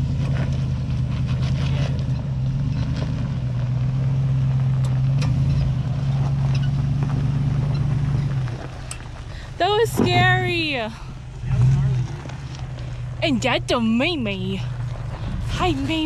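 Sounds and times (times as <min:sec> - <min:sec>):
suv engine running at low revs: 0:00.0 - 0:16.0.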